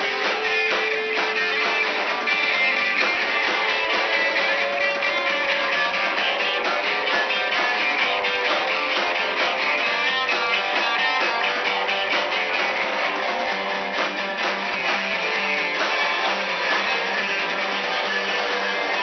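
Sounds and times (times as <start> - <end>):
bass: 0.0 - 19.0
drums: 0.0 - 19.0
electric guitars strumming: 0.0 - 19.0.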